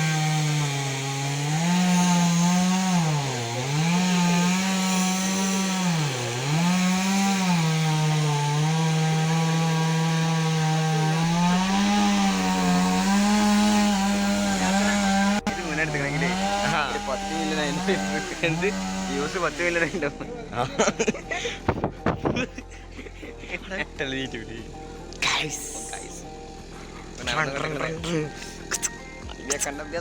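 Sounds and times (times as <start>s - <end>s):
chainsaw cutting a tree: 0.0s - 29.8s.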